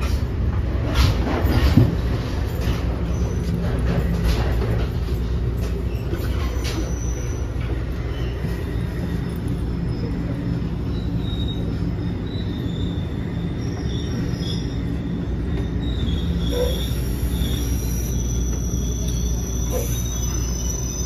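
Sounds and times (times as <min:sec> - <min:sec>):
train wheels rumbling on rail: 0:00.0 - 0:21.0
wheels squealing: 0:02.5 - 0:21.0.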